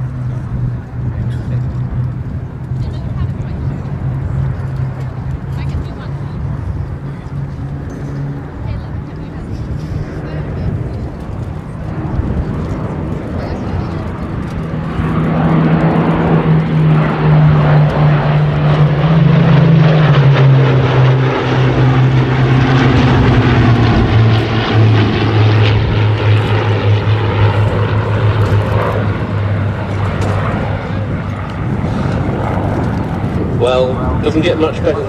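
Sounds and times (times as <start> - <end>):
aircraft piston engines flypast: 0.0 - 35.0.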